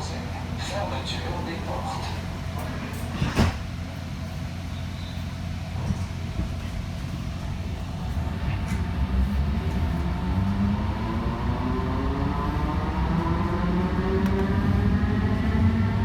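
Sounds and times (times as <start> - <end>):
light-rail train rumbling: 0.0 - 16.0.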